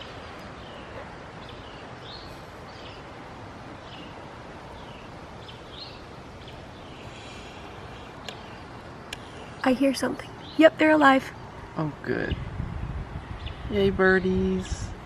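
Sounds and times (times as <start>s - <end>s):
small birds chirping: 0.0s - 12.6s, 13.3s - 14.7s
background hiss: 0.0s - 15.0s.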